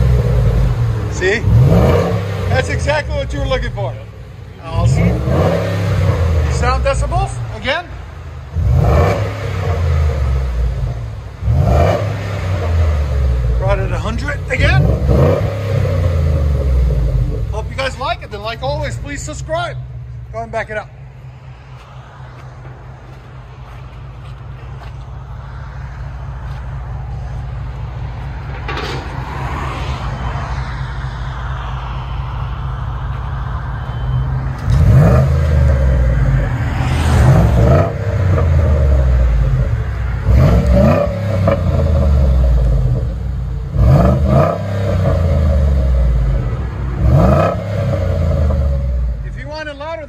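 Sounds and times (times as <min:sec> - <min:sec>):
truck engine idling and revving: 0:00.0 - 0:50.0.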